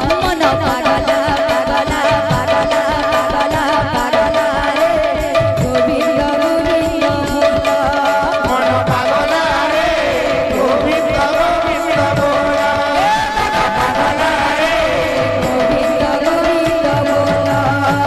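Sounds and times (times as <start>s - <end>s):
devotional singing: 0.0s - 18.0s.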